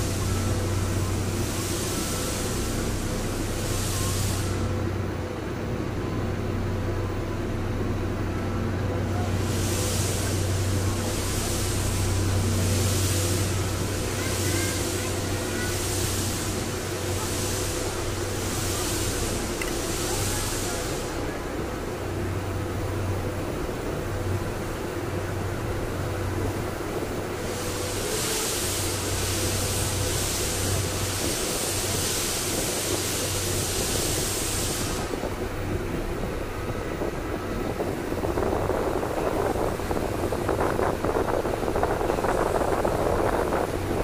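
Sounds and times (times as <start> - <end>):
steady hiss: 0.0 - 5.2, 9.0 - 44.0
train rumbling from inside coach: 0.0 - 44.0.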